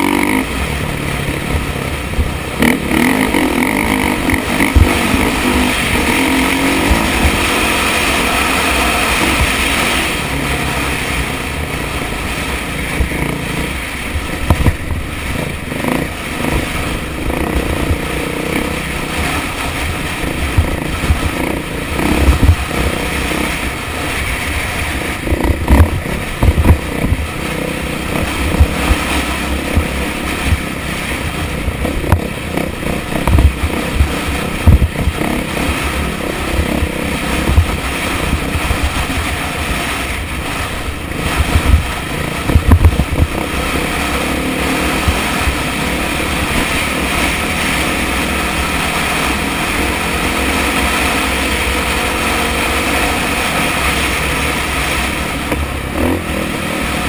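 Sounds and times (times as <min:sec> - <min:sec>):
dirt bike engine revving: 0:00.0 - 0:57.0
wind noise on microphone: 0:00.0 - 0:57.0.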